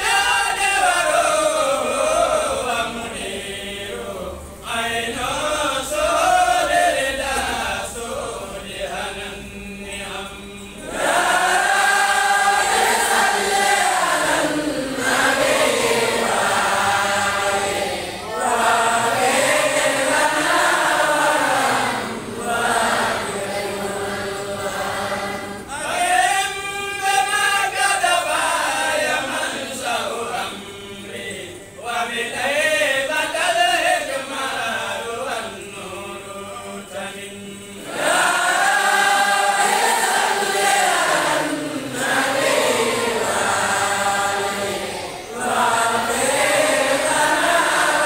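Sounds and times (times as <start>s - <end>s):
men chanting into microphone: 0.0s - 48.0s.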